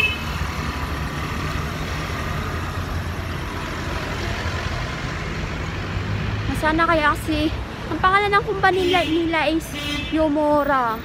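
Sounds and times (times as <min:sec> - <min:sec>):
street traffic engines rumbling: 0:00.0 - 0:11.0.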